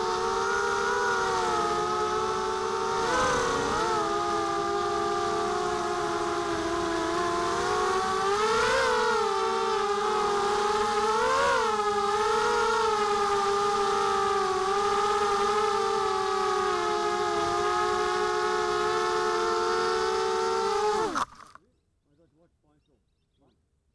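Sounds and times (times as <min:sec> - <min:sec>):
drone motors whining: 0:00.0 - 0:21.6.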